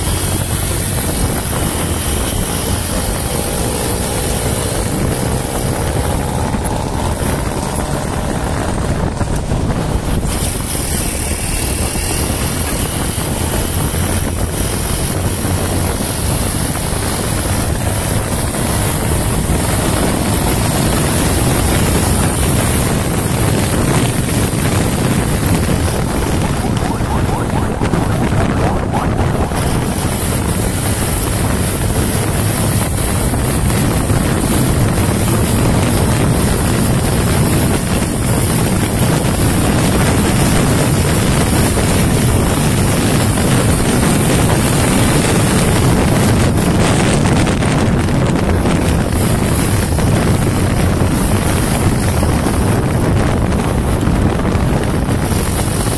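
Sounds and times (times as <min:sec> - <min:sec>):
motorcycle engine at high revs: 0:00.0 - 0:55.9
wind rush on microphone: 0:00.0 - 0:55.9.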